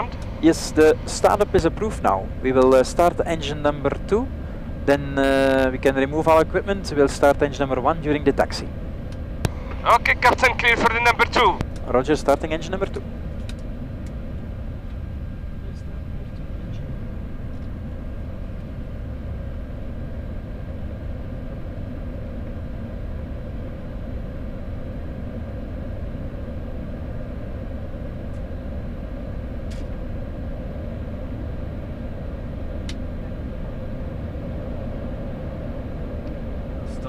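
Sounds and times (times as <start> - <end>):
cockpit engine rumble and hum: 0.0 - 37.0.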